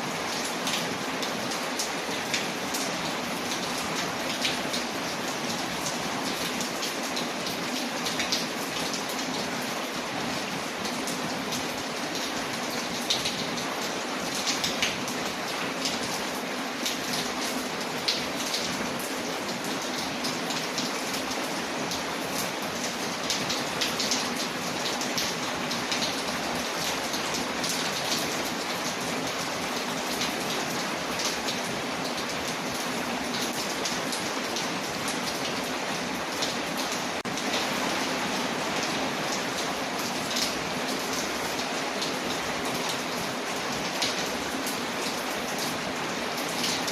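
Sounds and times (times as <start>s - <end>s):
rain on a window: 0.0s - 46.9s.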